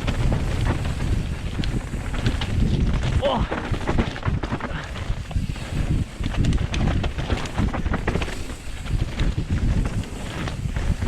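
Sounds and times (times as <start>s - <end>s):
bike clicks and rattles: 0.0s - 11.0s
bike rumbling on dirt trail: 0.0s - 11.0s
wind buffeting microphone: 0.0s - 11.0s.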